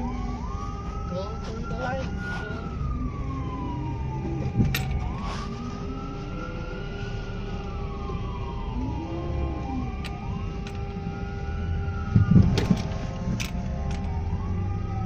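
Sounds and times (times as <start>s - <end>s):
ambulance siren wailing: 0.0s - 15.0s
low engine rumble: 0.0s - 15.0s.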